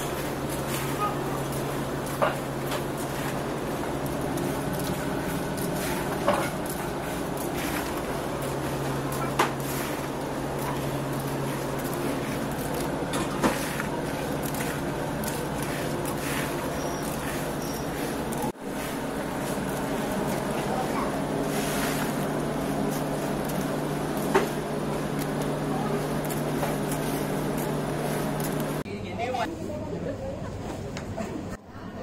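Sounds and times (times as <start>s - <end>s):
low machine hum: 0.0s - 30.3s.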